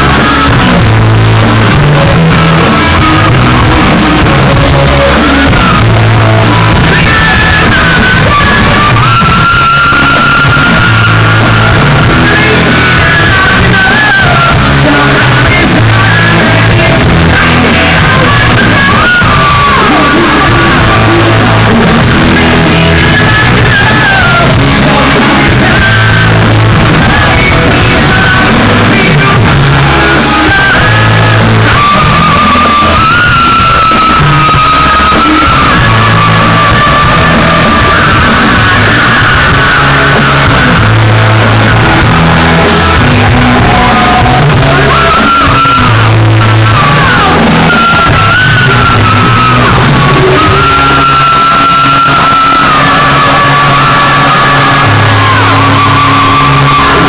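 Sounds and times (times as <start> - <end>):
live hard rock band: 0.0 - 57.0
wailing lead line: 0.0 - 57.0.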